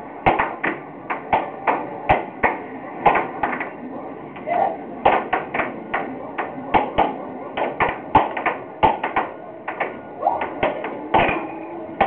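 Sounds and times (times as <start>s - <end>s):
air hockey puck clacking: 0.2s - 3.7s, 5.0s - 12.0s.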